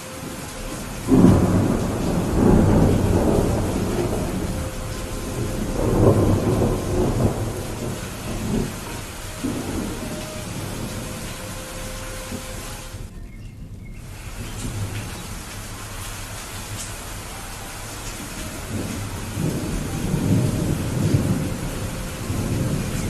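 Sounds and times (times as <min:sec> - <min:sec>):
rain hissing: 0:00.0 - 0:23.0
thunder rumbling: 0:00.0 - 0:23.0.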